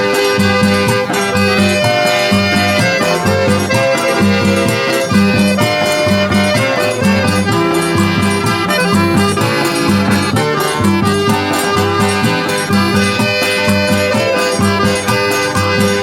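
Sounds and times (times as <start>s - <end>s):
accordion melody: 0.0s - 16.0s
bouncing bass line: 0.0s - 16.0s.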